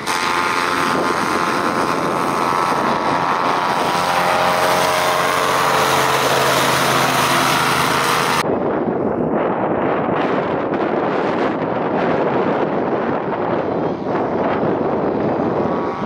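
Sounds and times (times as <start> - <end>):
hovercraft engine drone: 0.0 - 16.0
wind noise on microphone: 0.0 - 16.0.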